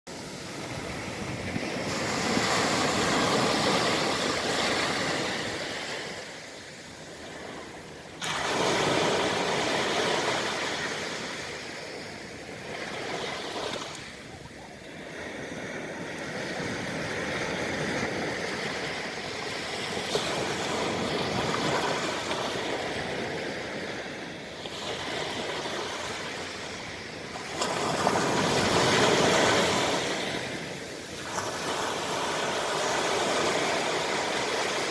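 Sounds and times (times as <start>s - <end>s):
sea waves on beach: 0.1s - 34.9s.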